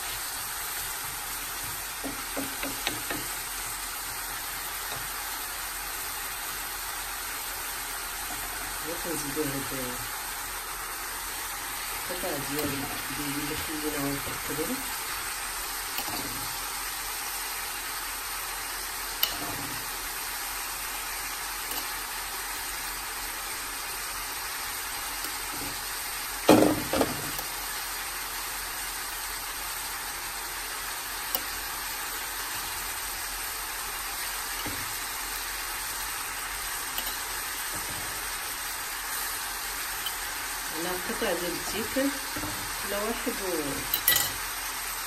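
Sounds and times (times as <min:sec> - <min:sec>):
food sizzling in frying pan: 0:00.0 - 0:45.0.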